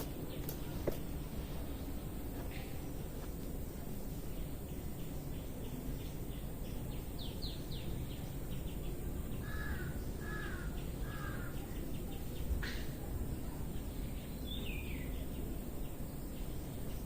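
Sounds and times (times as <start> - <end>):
birds calling: 0.0 - 17.0
low background noise: 0.0 - 17.0.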